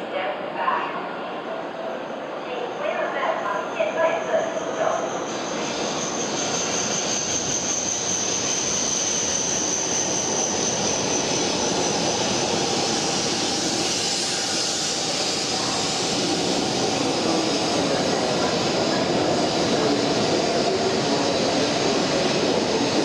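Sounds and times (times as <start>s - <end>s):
high-speed train rushing past: 0.0s - 23.0s.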